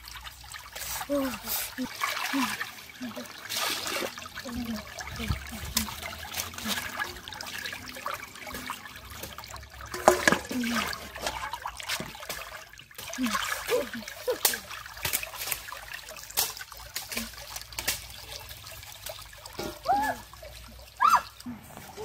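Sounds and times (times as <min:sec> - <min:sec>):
stream water trickling: 0:00.0 - 0:22.0
metal pan splashing in water: 0:01.9 - 0:21.5.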